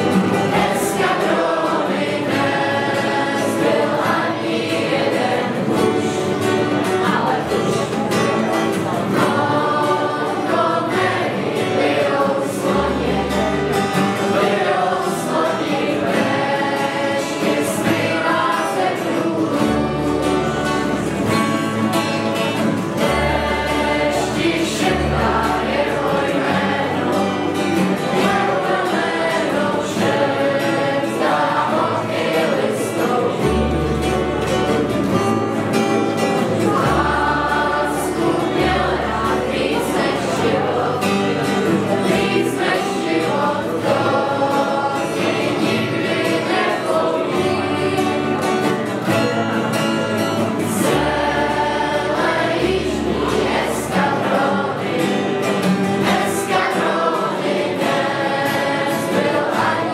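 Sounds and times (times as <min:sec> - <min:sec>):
acoustic guitars strumming: 0:00.0 - 0:59.9
group singing in chorus: 0:00.0 - 0:59.9.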